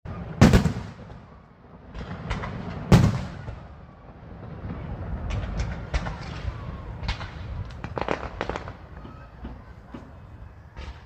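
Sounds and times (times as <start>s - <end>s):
fireworks bangs and pops: 0.1s - 3.8s, 4.4s - 11.0s.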